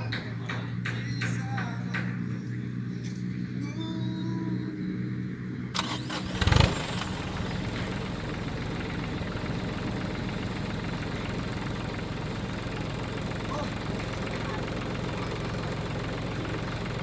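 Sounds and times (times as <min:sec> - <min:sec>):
truck engine starting and idling: 0:00.0 - 0:17.0.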